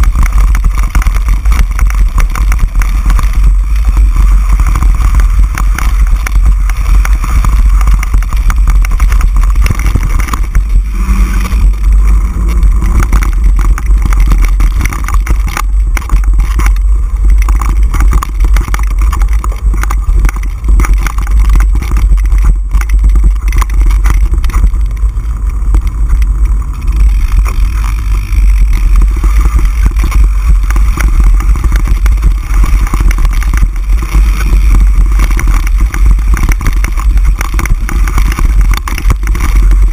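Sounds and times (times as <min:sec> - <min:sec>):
bike rattling and knocking: 0:00.0 - 0:39.9
wind rumble on microphone: 0:00.0 - 0:39.9.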